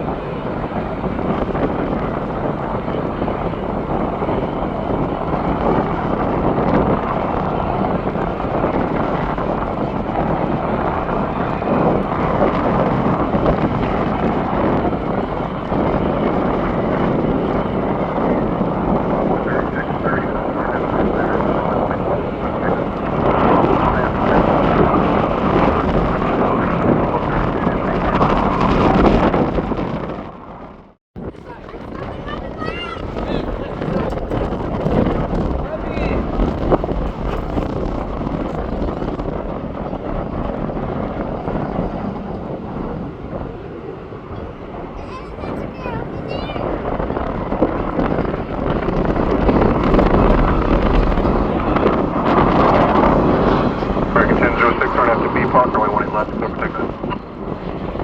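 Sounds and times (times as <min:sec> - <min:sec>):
airport background roar: 0:00.0 - 0:58.0
wind on microphone: 0:00.0 - 0:58.0.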